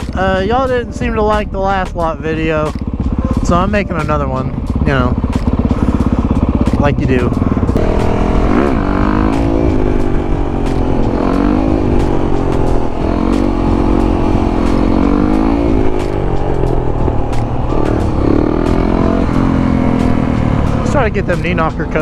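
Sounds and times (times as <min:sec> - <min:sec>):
low engine hum: 0:00.0 - 0:22.0
motorcycle engines revving: 0:00.0 - 0:22.0.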